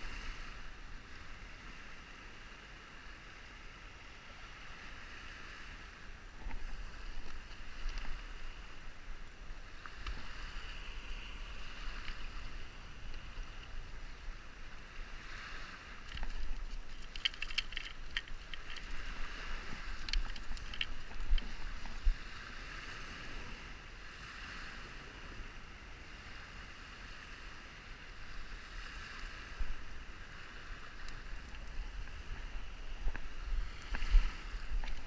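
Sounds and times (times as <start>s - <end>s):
small waves on pebble shore: 0.0s - 35.0s
wind rumbling on microphone: 0.0s - 35.0s.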